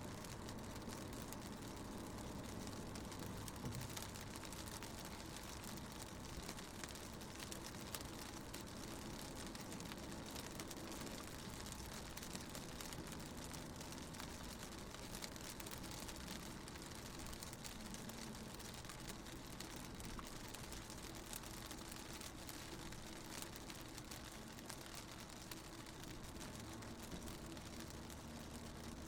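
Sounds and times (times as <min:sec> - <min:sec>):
engine and road rumble: 0:00.0 - 0:29.0
rain drops ticking on window: 0:00.0 - 0:29.0.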